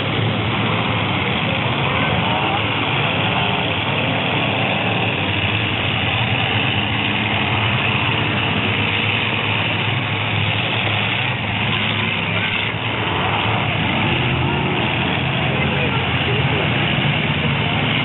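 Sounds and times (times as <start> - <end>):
truck engines running loudly: 0.0 - 18.0.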